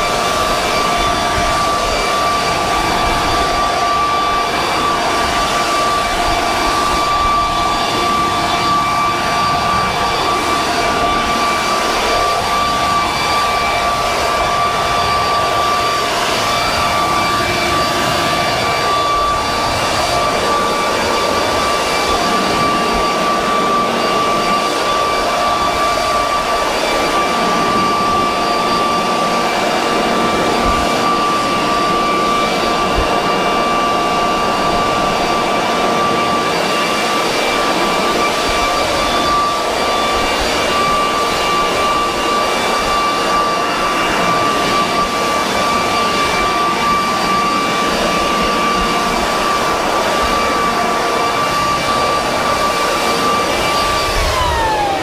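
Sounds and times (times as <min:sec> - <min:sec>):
leaf blower whining: 0:00.0 - 0:55.0.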